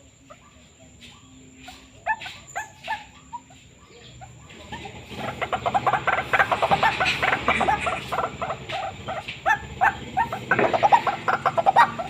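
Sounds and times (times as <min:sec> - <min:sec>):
waterhen croaking calls: 0:01.6 - 0:12.0.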